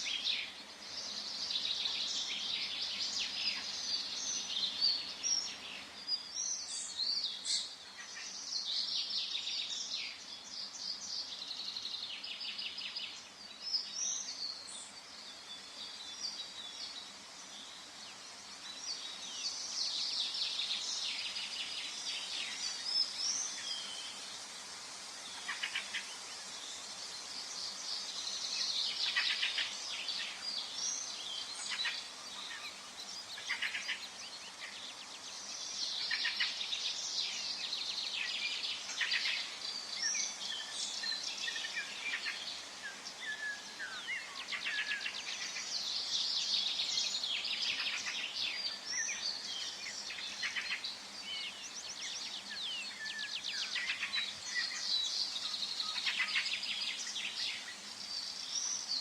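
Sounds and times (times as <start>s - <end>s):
faint background hiss: 0.0s - 59.0s
small birds chirping and trilling: 0.0s - 59.0s.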